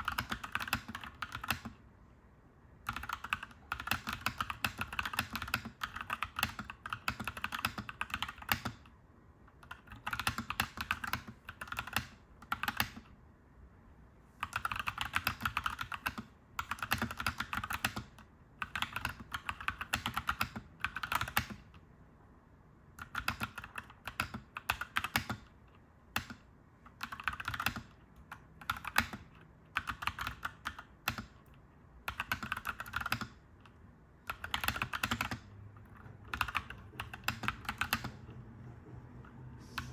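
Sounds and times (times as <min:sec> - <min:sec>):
mechanical keyboard typing: 0:00.0 - 0:01.8, 0:02.8 - 0:08.9, 0:09.5 - 0:13.1, 0:14.4 - 0:21.8, 0:23.0 - 0:38.4.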